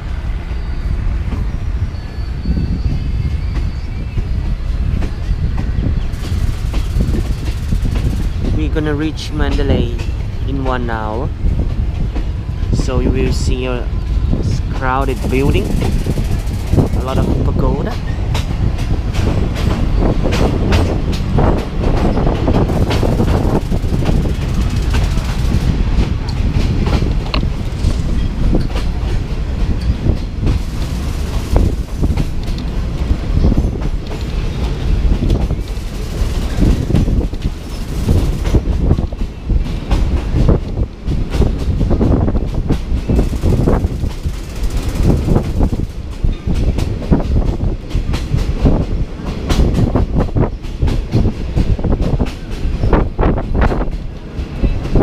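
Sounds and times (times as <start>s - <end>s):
train knocks and rattles: 0.0s - 55.0s
train low rumble: 0.0s - 55.0s
wheels clacking over rails: 5.0s - 10.7s, 14.6s - 55.0s.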